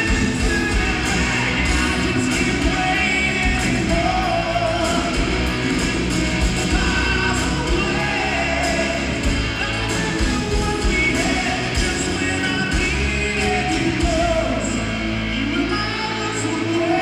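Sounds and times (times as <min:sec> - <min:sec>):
drums: 0:00.0 - 0:17.0
electric bass: 0:00.0 - 0:17.0
live rock band playing: 0:00.0 - 0:17.0
melodic lead guitar line: 0:00.0 - 0:17.0.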